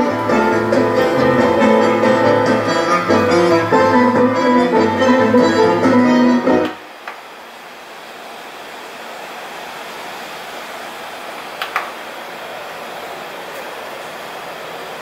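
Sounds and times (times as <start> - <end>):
amplifier hiss: 0.0 - 15.0.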